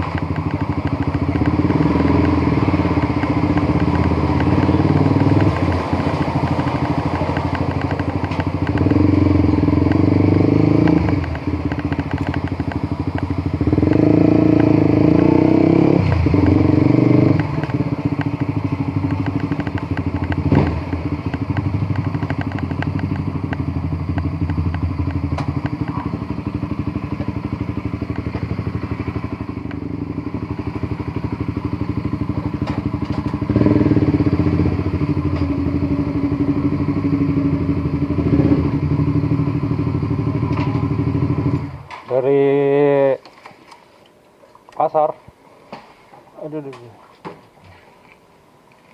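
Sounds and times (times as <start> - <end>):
motorcycle engine running: 0.0 - 43.1.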